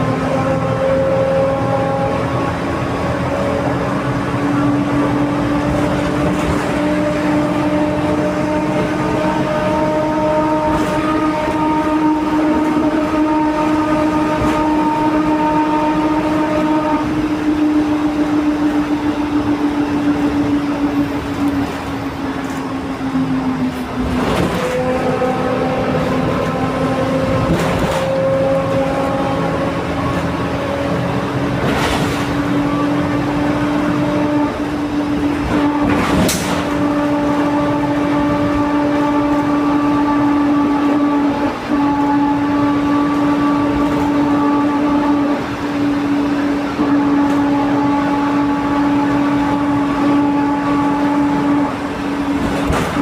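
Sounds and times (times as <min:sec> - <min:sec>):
bus differential whining: 0:00.0 - 0:53.0
diesel engine: 0:00.0 - 0:53.0.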